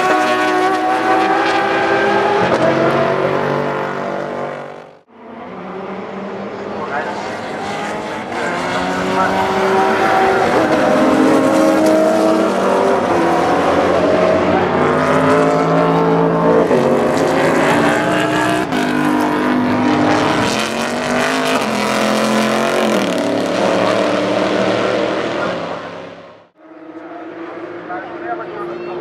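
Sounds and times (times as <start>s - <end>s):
race car engines at high revs: 0.0s - 29.0s.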